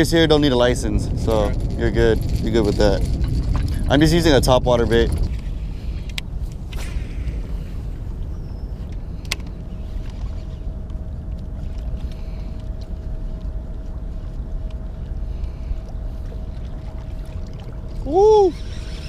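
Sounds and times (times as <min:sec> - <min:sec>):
faint even hum: 0:00.0 - 0:19.0
outdoor ambient rumble: 0:00.0 - 0:19.0.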